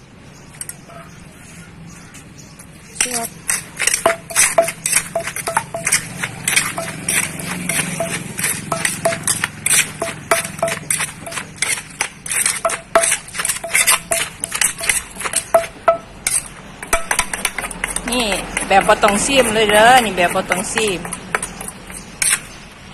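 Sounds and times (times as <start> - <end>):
pestle pounding in clay mortar: 3.0 - 22.5.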